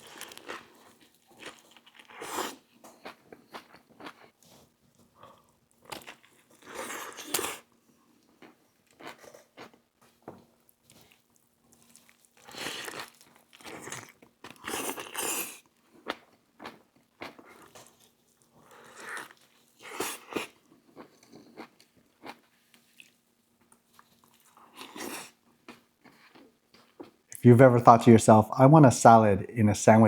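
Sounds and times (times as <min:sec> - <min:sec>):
crunching and chewing: 0:00.0 - 0:27.4.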